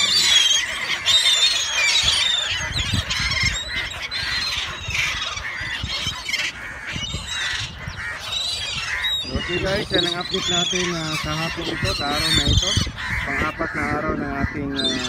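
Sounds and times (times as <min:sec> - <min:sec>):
gulls calling: 0:00.0 - 0:15.0.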